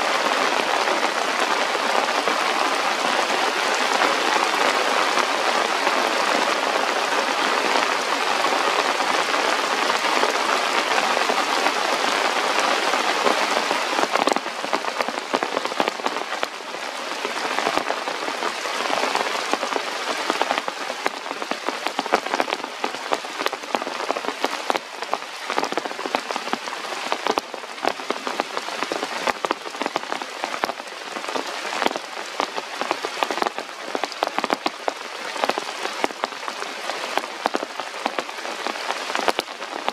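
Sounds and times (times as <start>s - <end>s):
rain on leaves and rock: 0.0s - 39.9s.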